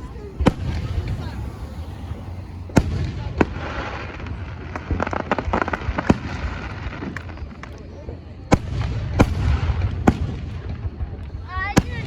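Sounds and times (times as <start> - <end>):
low rumble: 0.0 - 11.3
crackling firework pops: 0.0 - 12.0
firework bangs: 0.0 - 12.0.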